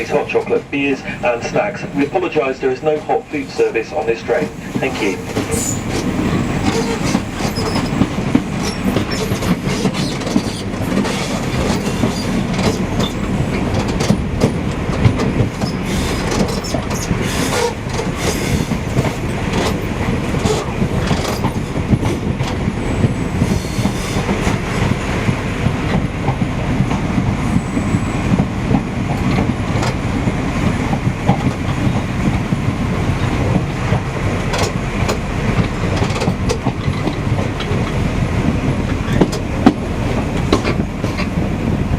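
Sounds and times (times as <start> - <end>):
train wheels rumbling on track: 0.0 - 41.9
wheels clicking over rail joints: 4.0 - 27.4, 28.3 - 32.6, 33.2 - 41.6.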